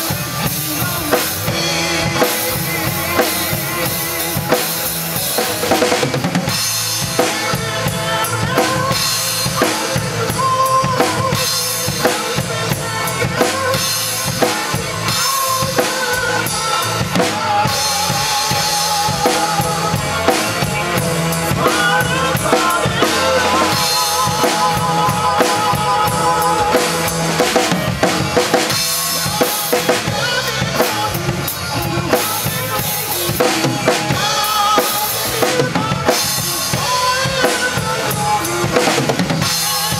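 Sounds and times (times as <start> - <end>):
drum kit groove: 0.0 - 39.9
recorded song playing: 7.1 - 39.9.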